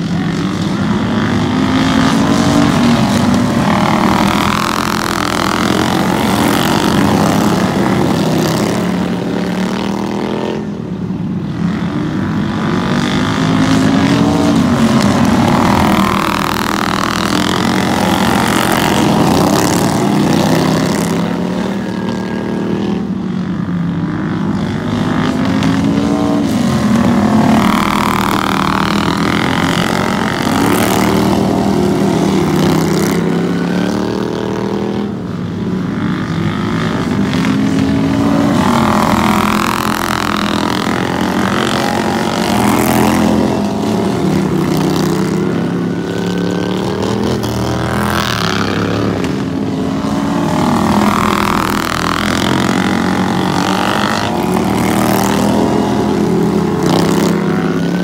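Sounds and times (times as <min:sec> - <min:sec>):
small engines racing: 0:00.0 - 0:58.0.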